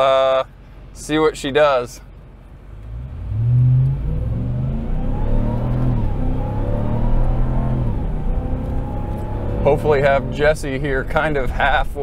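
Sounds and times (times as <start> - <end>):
car engine accelerating: 2.4 - 12.0.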